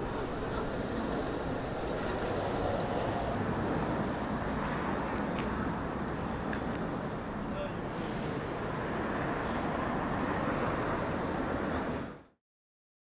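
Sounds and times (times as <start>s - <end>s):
city traffic hum: 0.0s - 12.4s.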